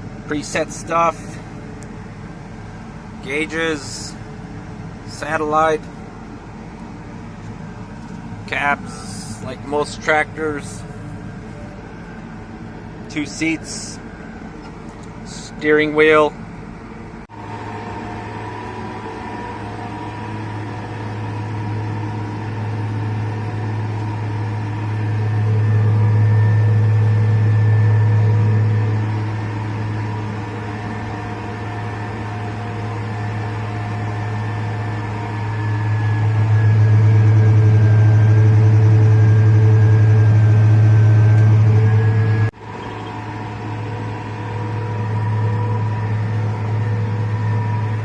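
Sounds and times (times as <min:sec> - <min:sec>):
tractor engine drone: 0:00.0 - 0:48.0.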